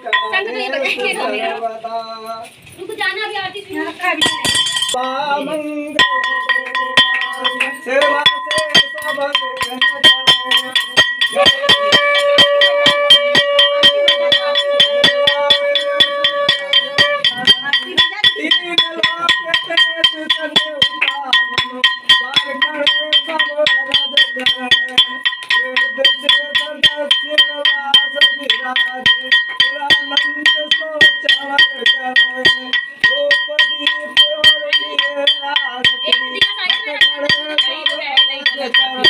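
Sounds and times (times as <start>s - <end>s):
hand bell rung rapidly: 0.0s - 1.6s, 2.2s - 39.0s
person singing: 5.0s - 39.0s.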